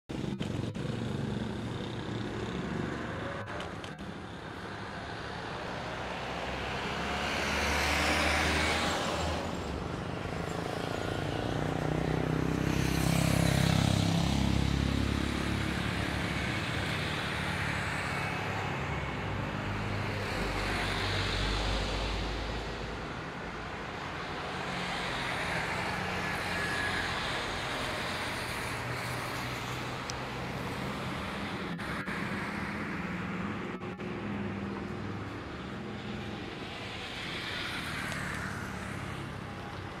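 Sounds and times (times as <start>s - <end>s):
vehicles passing close by: 0.1s - 40.0s.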